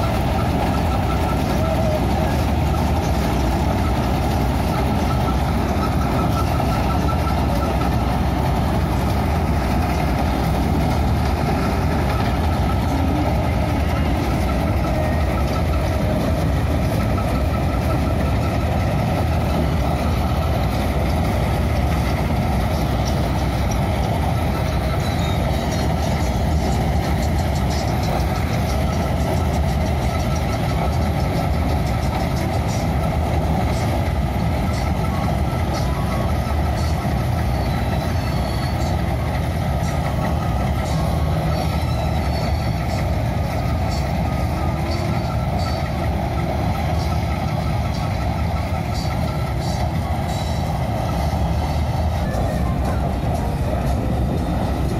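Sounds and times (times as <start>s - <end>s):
harvester diesel engine drone: 0.0s - 54.9s.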